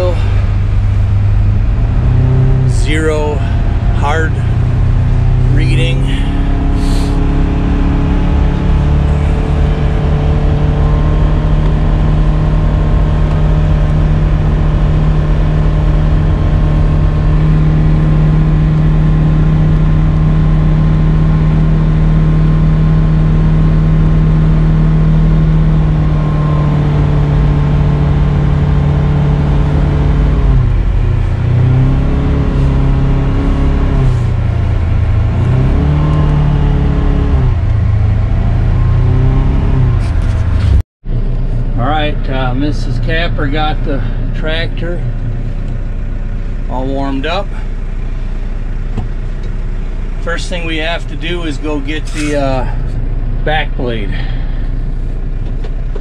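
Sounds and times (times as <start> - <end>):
vehicle engine cruising heard from cab: 0.0 - 56.0.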